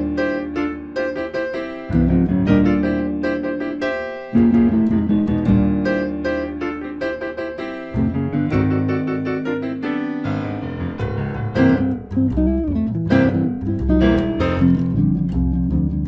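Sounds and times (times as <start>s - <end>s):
jazz piano trio: 0.0s - 16.0s
piano chords and runs: 0.0s - 16.0s.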